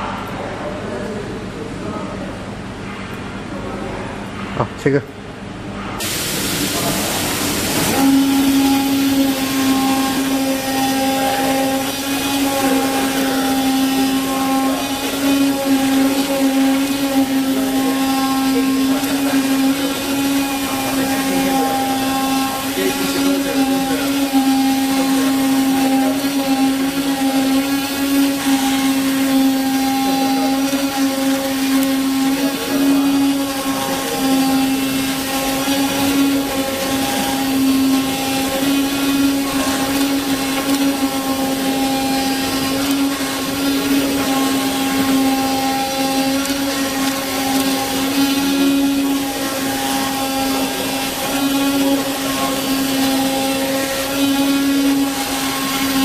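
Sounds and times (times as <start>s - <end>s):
cutting machine motor hum: 6.0s - 56.0s.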